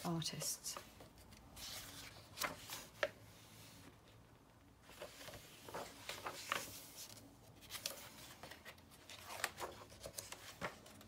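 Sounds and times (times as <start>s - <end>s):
book pages rustling: 0.0s - 11.0s.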